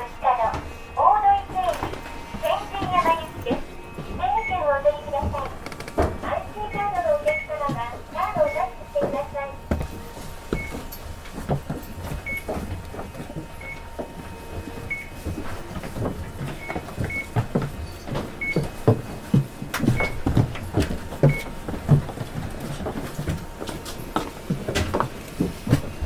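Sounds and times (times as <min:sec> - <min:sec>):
interior knocks and rattles: 0:00.4 - 0:26.0.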